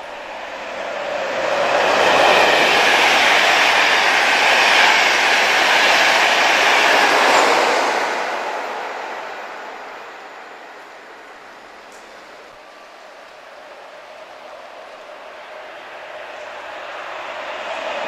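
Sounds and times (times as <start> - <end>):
train passing on wet rails: 0.0 - 18.0.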